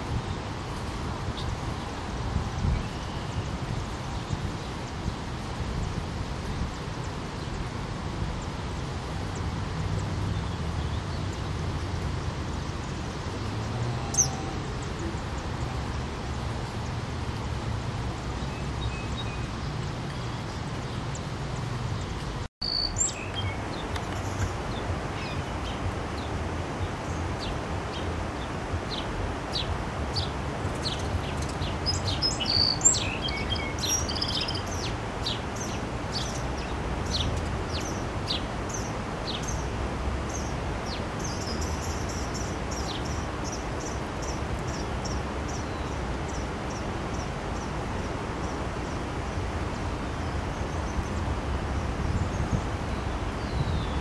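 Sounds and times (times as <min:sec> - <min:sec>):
outdoor background noise: 0:00.0 - 0:54.0
songbirds chirping: 0:00.0 - 0:54.0.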